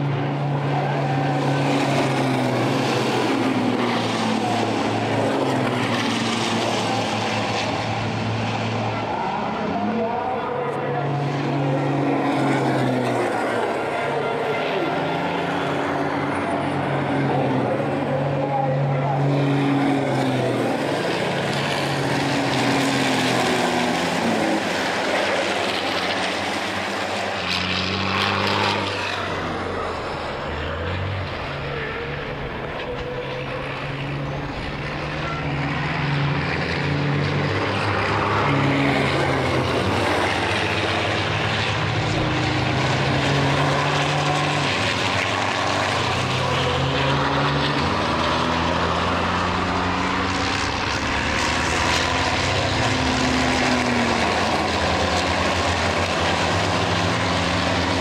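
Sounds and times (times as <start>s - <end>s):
racing truck engines droning: 0.0s - 58.0s
truck passing close: 0.0s - 58.0s.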